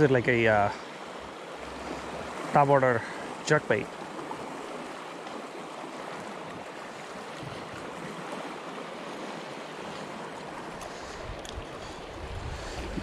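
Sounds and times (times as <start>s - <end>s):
sea waves washing against rocks: 0.0s - 13.0s.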